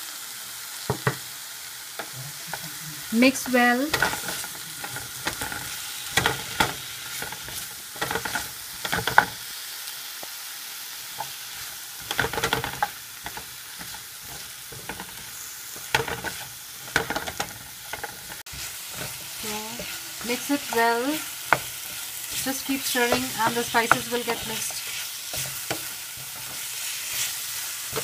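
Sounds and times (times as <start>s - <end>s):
vegetables sizzling: 0.0s - 28.0s
spatula scraping frying pan: 2.4s - 9.4s, 11.1s - 28.0s.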